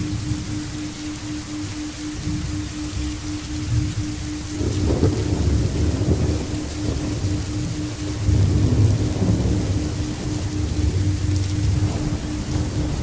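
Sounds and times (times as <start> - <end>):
faint pulsing low tone: 0.0 - 13.0
steady rain: 0.0 - 13.0
thunder rumbling low: 2.2 - 13.0.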